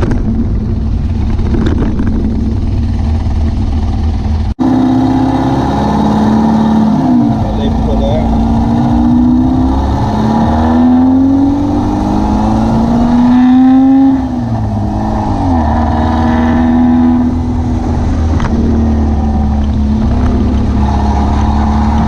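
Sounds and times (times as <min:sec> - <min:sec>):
engine accelerating: 0:00.0 - 0:22.0.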